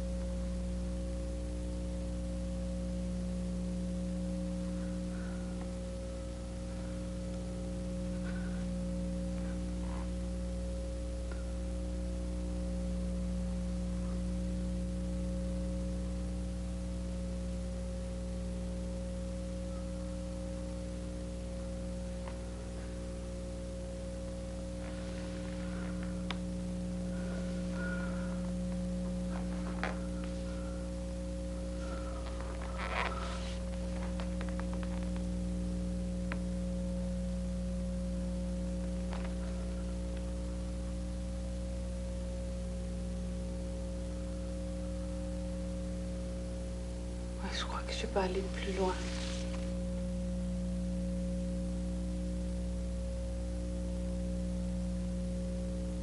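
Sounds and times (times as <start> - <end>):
low drone of held tones: 0.0 - 56.0
low electrical hum: 0.0 - 56.0.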